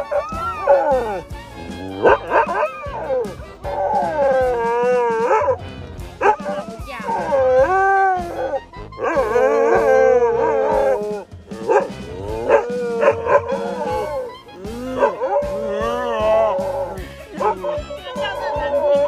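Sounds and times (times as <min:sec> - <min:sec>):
background music: 0:00.0 - 0:19.0
dogs howling: 0:00.0 - 0:19.0.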